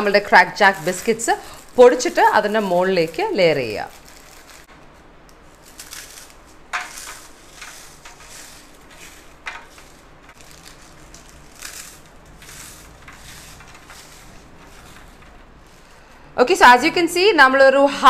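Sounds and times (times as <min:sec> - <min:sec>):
plastic wrapper crinkling: 0:00.0 - 0:16.2
biscuits being crushed: 0:00.5 - 0:15.9.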